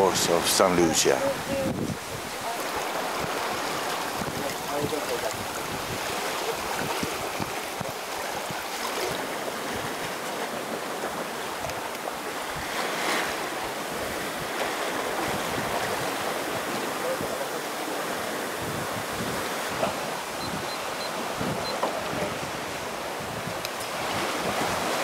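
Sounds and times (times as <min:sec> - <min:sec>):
water splashing past boat hull: 0:00.0 - 0:25.0
wind gusts on microphone: 0:00.0 - 0:25.0.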